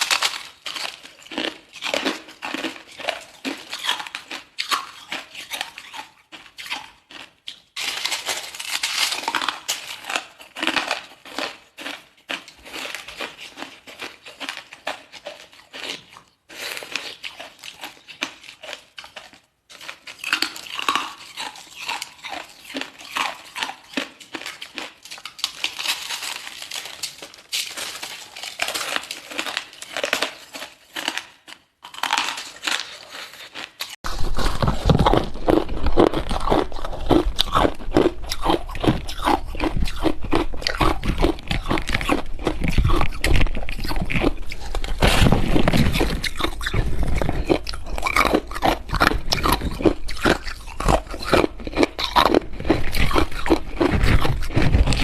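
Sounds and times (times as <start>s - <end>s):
person crunching ice: 0.0s - 19.1s, 19.7s - 55.0s.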